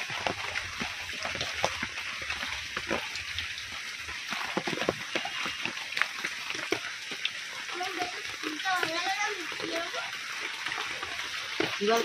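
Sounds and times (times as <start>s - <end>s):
rice washing splashes: 0.0s - 12.0s.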